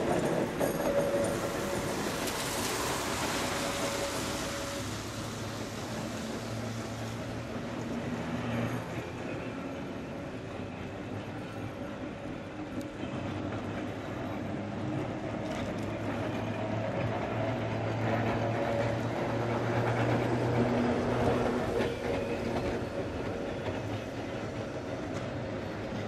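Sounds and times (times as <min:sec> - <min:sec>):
electric tram hum: 0:00.0 - 0:26.0
tram wheels clattering on rails: 0:00.0 - 0:26.0.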